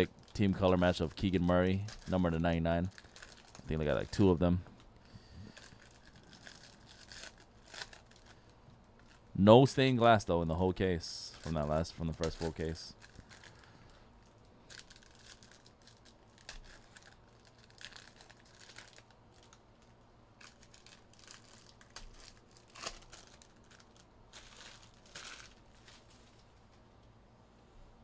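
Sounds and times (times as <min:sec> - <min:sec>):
wrappers crinkling: 0:00.0 - 0:09.4, 0:10.0 - 0:26.9.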